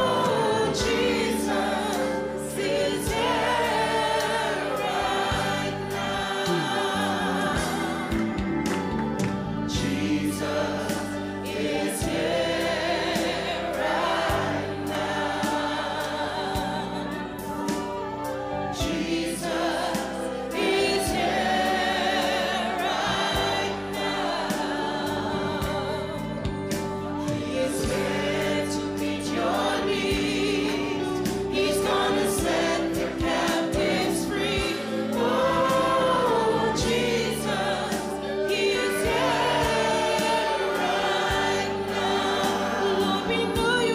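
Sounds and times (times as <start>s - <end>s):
group singing gospel: 0.0s - 43.9s.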